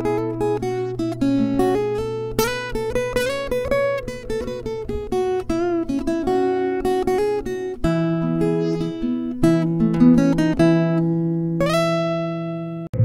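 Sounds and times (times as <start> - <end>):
fingerstyle acoustic guitar: 0.0 - 13.0.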